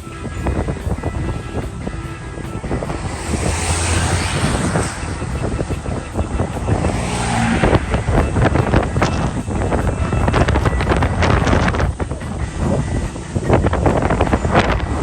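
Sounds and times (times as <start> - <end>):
car engine and road noise: 0.0 - 15.0
storm wind rushing: 0.0 - 15.0.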